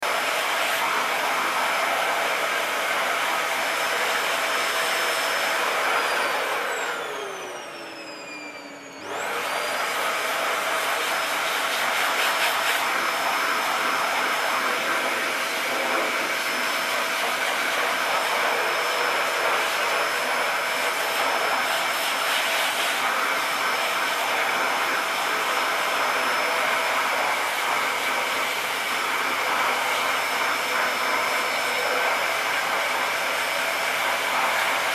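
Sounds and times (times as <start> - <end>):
vacuum cleaner motor whining: 0.0 - 34.9.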